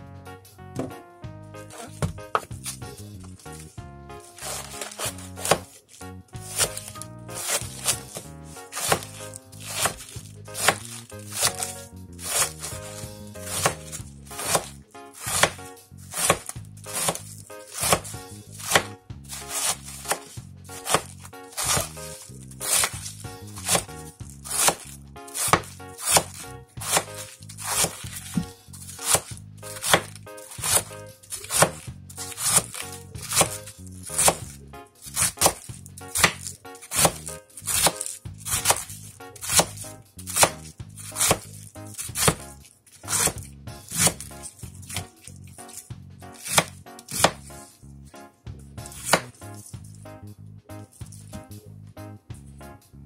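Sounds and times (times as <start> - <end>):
knife shredding cabbage on board: 1.8 - 47.8, 48.8 - 49.6.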